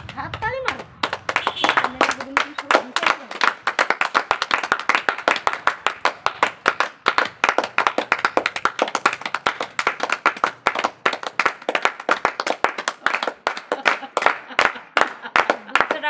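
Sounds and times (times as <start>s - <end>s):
people clapping: 0.0s - 16.0s.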